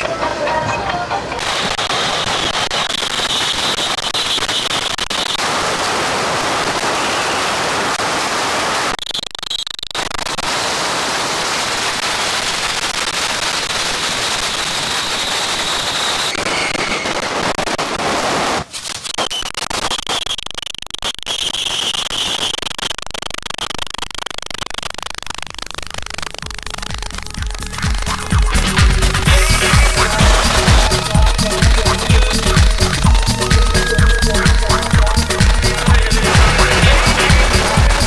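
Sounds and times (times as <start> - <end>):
firecrackers crackling: 1.4 - 38.0.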